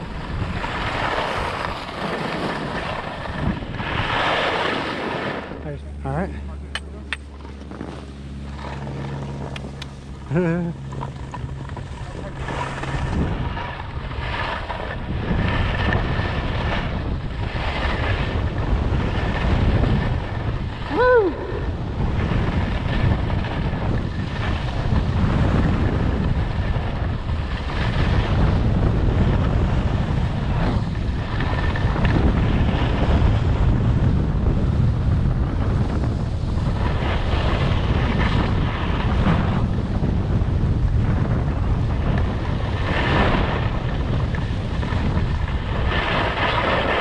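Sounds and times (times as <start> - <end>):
skis scraping across snow: 0.0 - 5.6, 7.4 - 10.0, 10.9 - 20.9, 21.6 - 47.0
wind buffeting microphone: 0.0 - 47.0.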